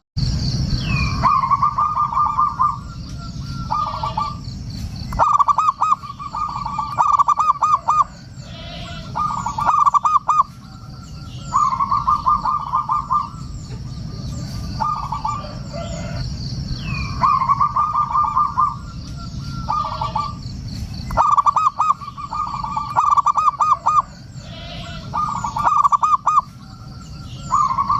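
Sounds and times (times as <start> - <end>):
faint high chirping: 0.2 - 27.9
dove cooing: 0.9 - 27.9.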